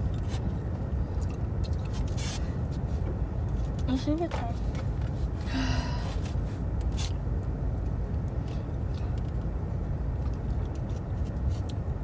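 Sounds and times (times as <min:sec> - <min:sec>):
low rumble inside car: 0:00.0 - 0:12.0.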